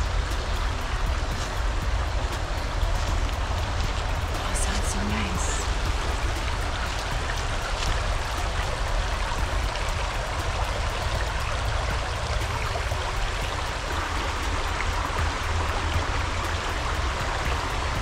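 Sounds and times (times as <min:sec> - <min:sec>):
creek babbling over stones: 0:00.0 - 0:18.0
low rumble: 0:00.0 - 0:18.0.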